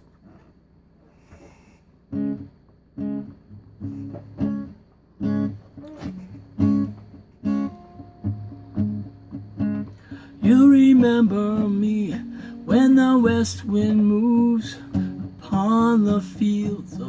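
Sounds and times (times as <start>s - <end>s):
acoustic guitar chords: 2.1s - 17.0s.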